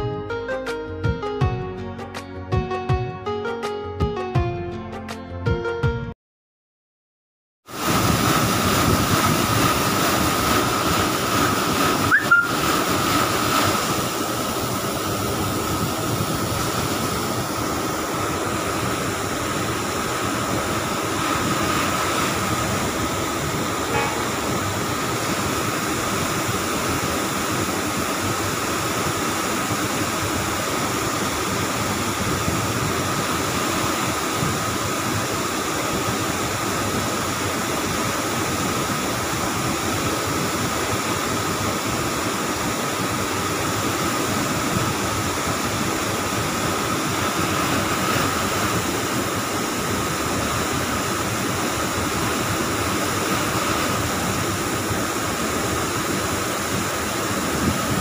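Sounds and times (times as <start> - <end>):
high machinery whine: 7.7 - 58.0
spraying water: 7.7 - 58.0.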